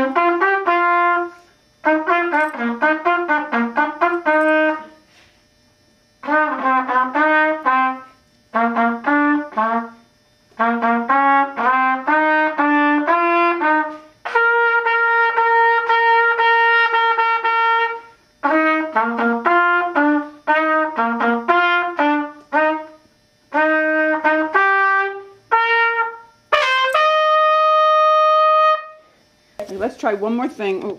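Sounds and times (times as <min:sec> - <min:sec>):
wind instrument melody: 0:00.0 - 0:04.9, 0:06.2 - 0:10.0, 0:10.6 - 0:29.0.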